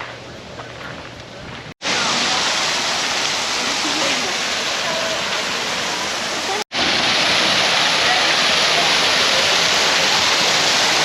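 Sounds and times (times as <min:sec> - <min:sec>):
loud steady rushing noise: 0:01.5 - 0:11.0.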